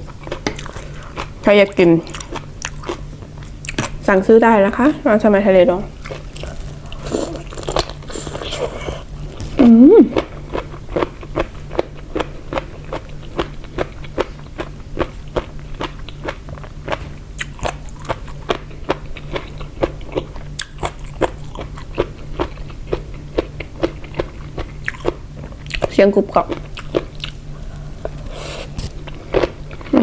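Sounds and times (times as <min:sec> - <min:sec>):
crunchy chewing: 0:00.0 - 0:04.0, 0:05.9 - 0:30.0.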